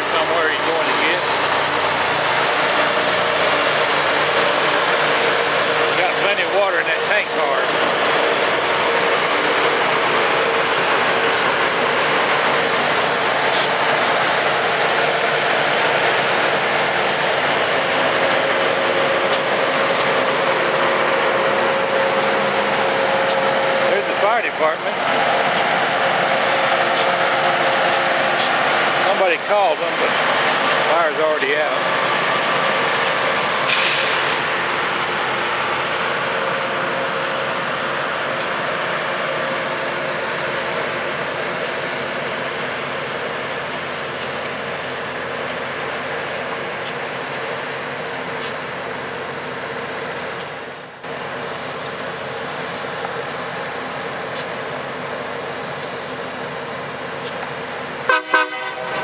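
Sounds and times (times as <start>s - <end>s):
rail grinder train passing: 0.0s - 59.0s.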